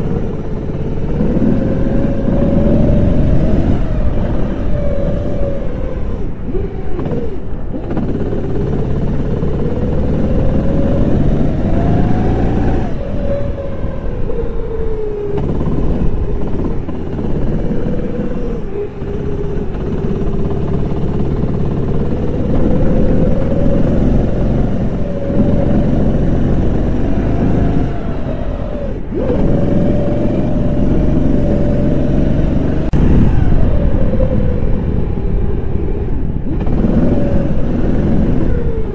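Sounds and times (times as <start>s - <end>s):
kart engine revving: 0.0s - 38.9s
steady low rumble: 0.0s - 38.9s.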